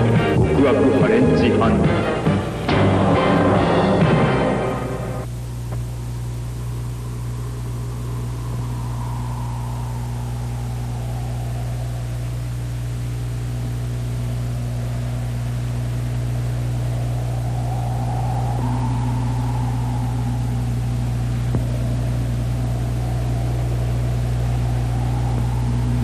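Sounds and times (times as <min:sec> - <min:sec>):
low electrical hum: 0:00.0 - 0:26.0
faint hiss: 0:04.8 - 0:26.0.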